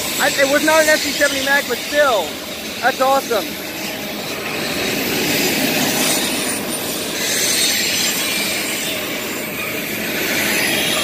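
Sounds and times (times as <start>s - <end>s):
steel train wheels on rails: 0.0s - 11.0s.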